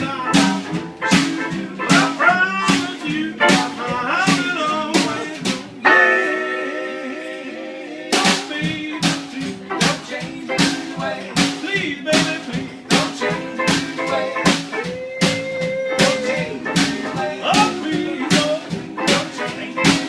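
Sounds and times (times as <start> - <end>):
drum kit backbeat: 0.0 - 20.0.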